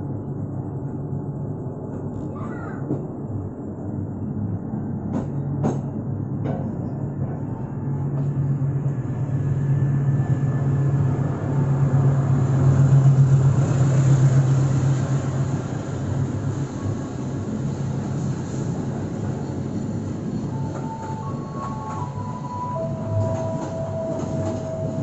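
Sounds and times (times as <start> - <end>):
train running on rails: 0.0 - 25.0.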